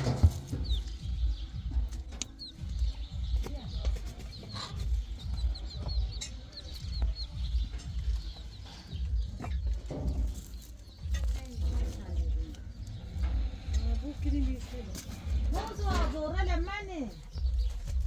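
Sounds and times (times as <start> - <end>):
low uneven rumble: 0.0 - 18.0
small birds chirping: 0.0 - 18.0.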